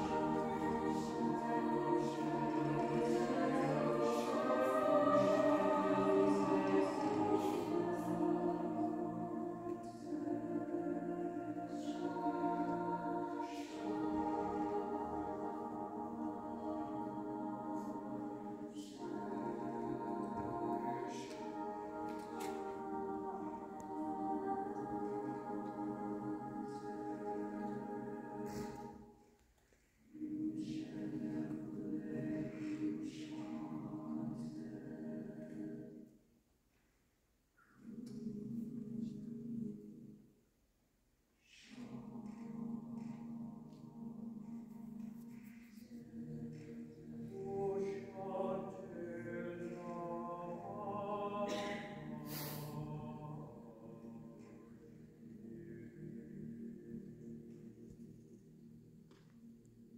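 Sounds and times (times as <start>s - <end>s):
choir singing sustained chords: 0.0s - 29.3s, 30.0s - 36.3s, 37.6s - 40.4s, 41.4s - 59.9s
choir breathing: 0.0s - 36.2s, 37.6s - 40.2s, 41.4s - 59.9s.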